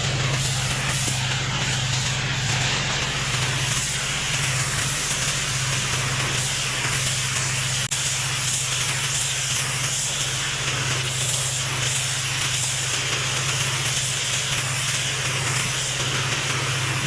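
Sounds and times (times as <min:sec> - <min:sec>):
engine hum: 0:00.0 - 0:17.0
high-pressure water spray hissing: 0:00.0 - 0:17.0.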